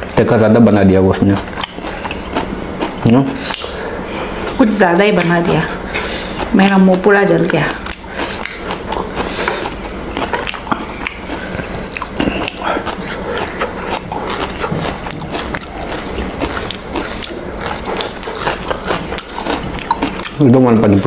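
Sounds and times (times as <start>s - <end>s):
people chewing food: 0.0s - 21.0s.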